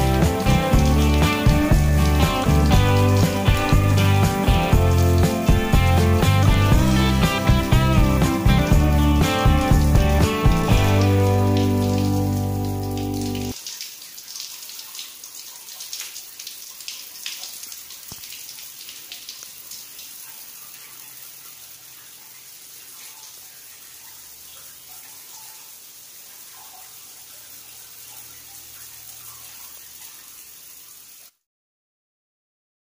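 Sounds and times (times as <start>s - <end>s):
shower spraying on tiled floor: 0.0s - 31.4s.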